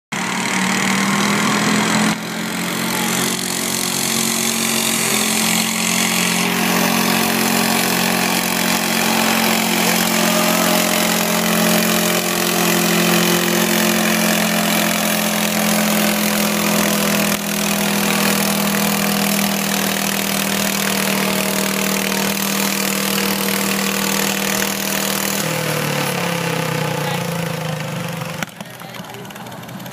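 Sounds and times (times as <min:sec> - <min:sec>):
lawn tractor engine under load: 0:00.1 - 0:29.9.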